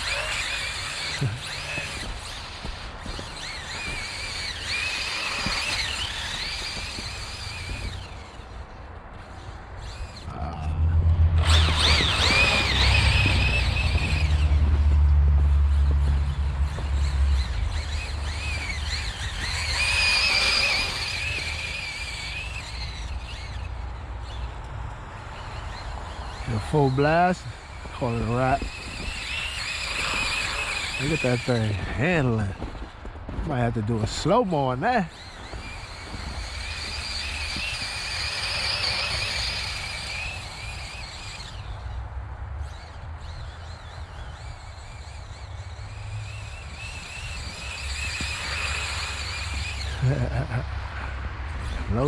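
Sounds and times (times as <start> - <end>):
electric motor whining: 0.0 - 42.0, 42.6 - 52.0
tyres spinning on snow: 0.0 - 52.0.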